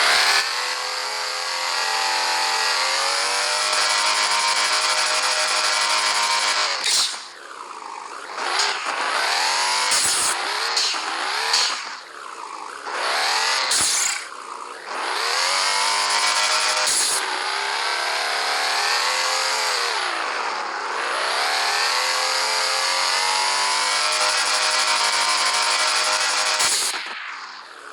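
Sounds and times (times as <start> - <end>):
car engine accelerating hard: 0.0 - 27.9.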